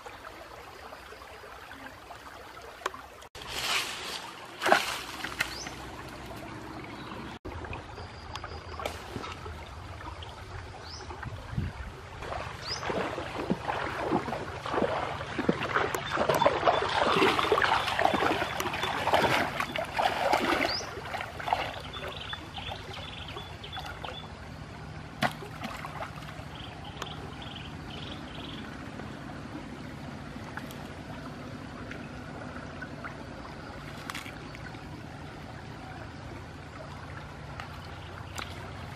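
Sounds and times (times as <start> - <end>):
stream trickling: 0.0 - 38.9
water splashing and sloshing: 0.0 - 38.9.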